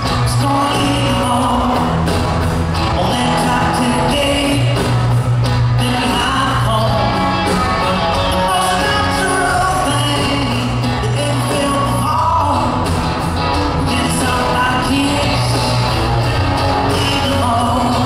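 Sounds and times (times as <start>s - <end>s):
man singing: 0.0s - 2.2s, 2.8s - 13.0s, 13.7s - 18.0s
live country rock band: 0.0s - 18.0s.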